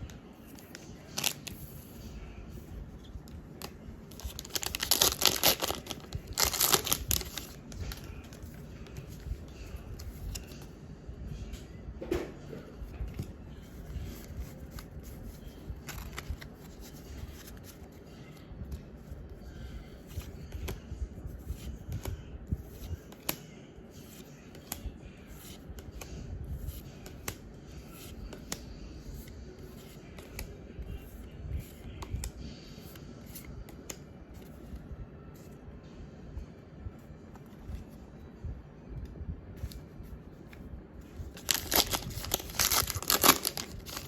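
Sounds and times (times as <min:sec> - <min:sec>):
cards rustling and clicking: 0:00.0 - 0:10.8, 0:12.5 - 0:34.8, 0:39.6 - 0:44.0.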